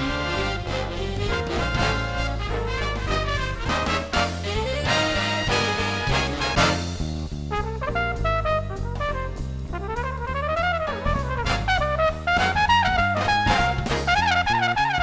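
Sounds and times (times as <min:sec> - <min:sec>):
bass and drum beat: 0:00.0 - 0:15.0
trombone: 0:00.0 - 0:15.0
trumpet: 0:00.0 - 0:15.0.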